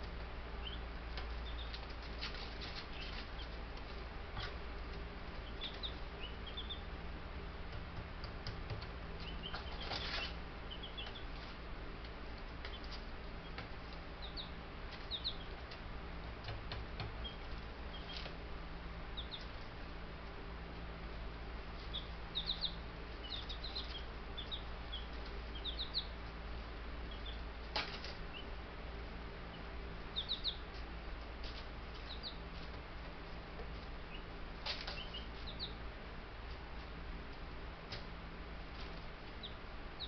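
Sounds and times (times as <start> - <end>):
chicks peeping: 0.0 - 36.9, 37.9 - 40.0
low steady hum: 0.0 - 40.0.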